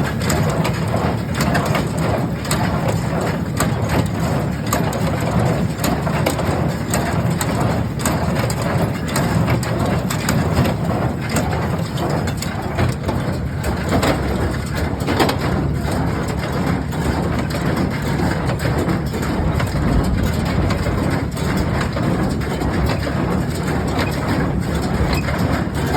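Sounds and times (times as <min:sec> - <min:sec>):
baler knocking and clattering: 0:00.0 - 0:25.9.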